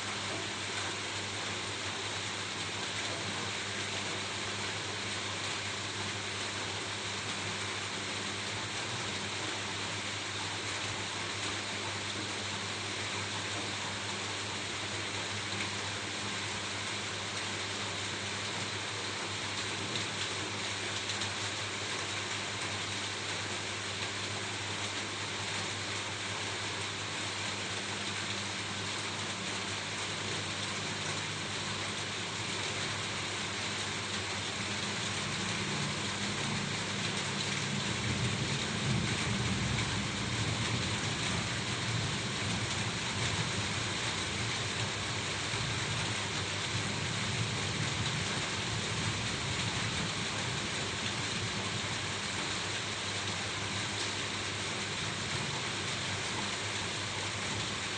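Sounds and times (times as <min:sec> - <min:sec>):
rain on a roof: 0:00.0 - 0:57.9.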